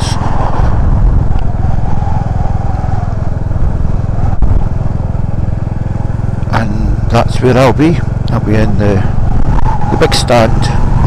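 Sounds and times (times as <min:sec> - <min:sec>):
motorcycle engine rumbling: 0:00.0 - 0:11.0
wind and road noise: 0:00.0 - 0:11.0.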